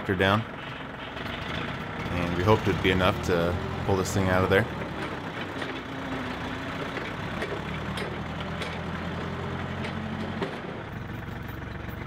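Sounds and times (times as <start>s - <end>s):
tractor and forklift engines running: 0.0s - 12.0s.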